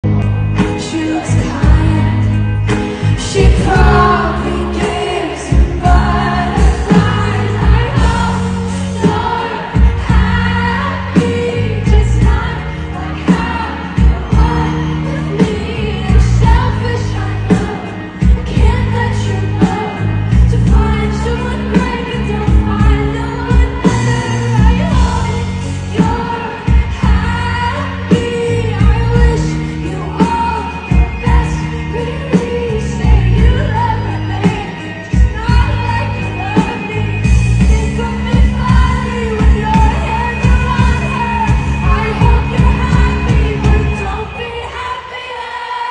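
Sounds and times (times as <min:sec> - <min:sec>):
live pop band: 0:00.0 - 0:45.9
female vocal singing: 0:00.8 - 0:45.9.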